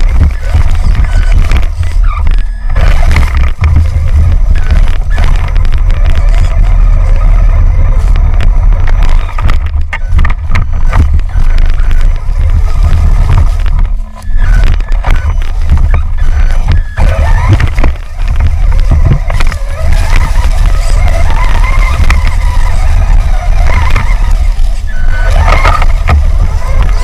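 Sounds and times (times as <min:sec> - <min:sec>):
knocks and clatter: 0:00.0 - 0:27.0
toy truck motor rumble: 0:00.0 - 0:27.0.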